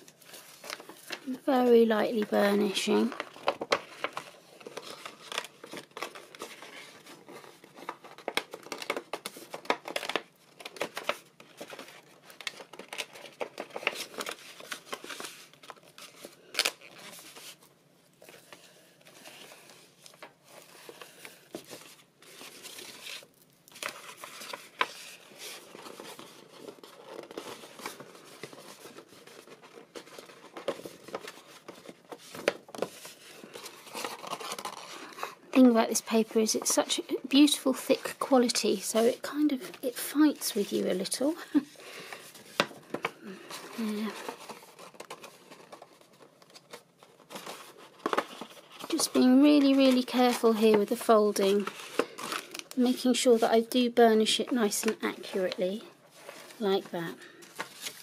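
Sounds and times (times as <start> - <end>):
paper crackling and rustling: 0.0 - 58.0.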